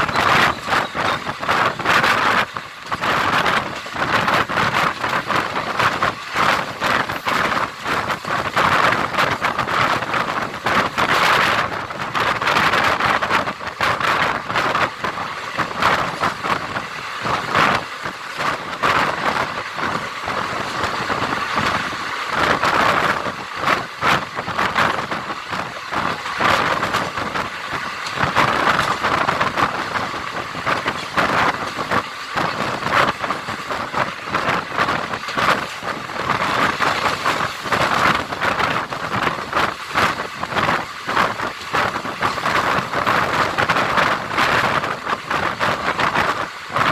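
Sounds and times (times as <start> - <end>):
train wheels clattering on track: 0.0 - 46.9.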